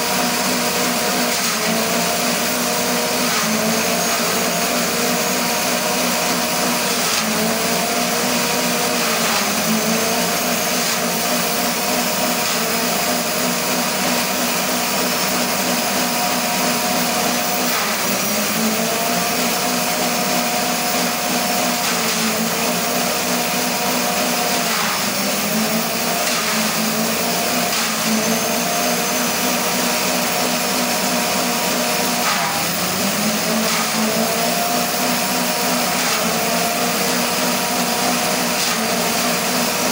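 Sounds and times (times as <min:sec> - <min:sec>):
grass chopper shredding stalks: 0:00.0 - 0:39.9.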